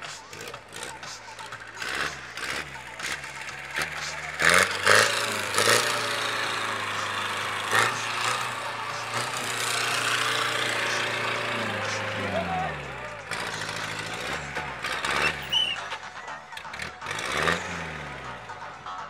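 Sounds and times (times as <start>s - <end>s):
crowd voices: 0.0s - 19.0s
jeep engine revving: 0.0s - 19.0s.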